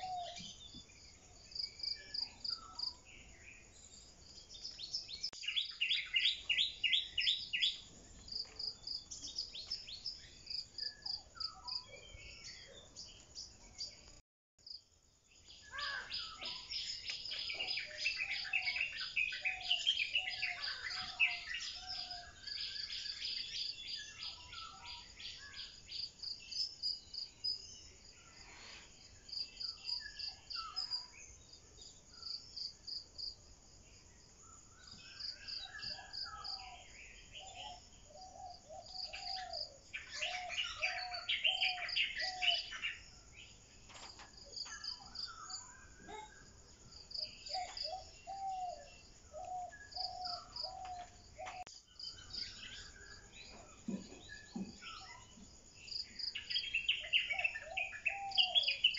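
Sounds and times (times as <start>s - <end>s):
insects chirping: 0.0s - 58.9s.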